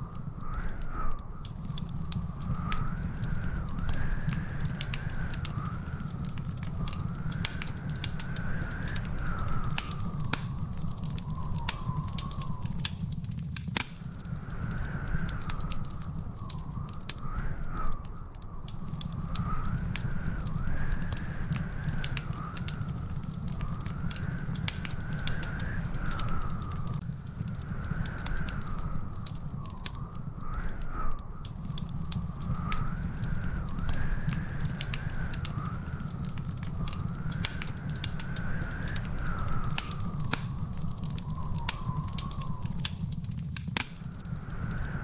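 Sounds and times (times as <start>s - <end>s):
steady low rumble: 0.0s - 45.0s
wood fire crackling and popping: 0.0s - 45.0s.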